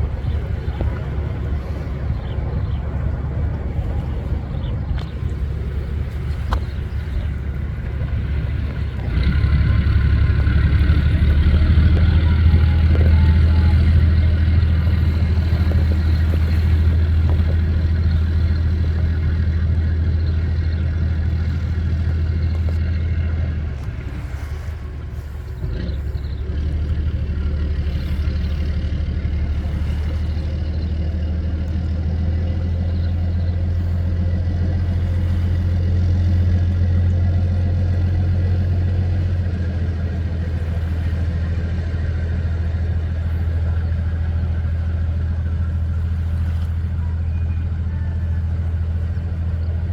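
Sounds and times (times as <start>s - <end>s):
boat diesel engine droning: 0.0s - 49.9s.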